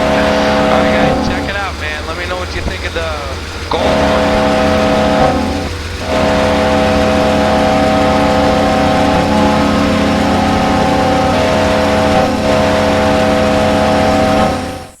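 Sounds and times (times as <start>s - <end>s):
low diesel engine rumble: 0.0s - 15.0s
train horn chord blasts: 0.0s - 15.0s.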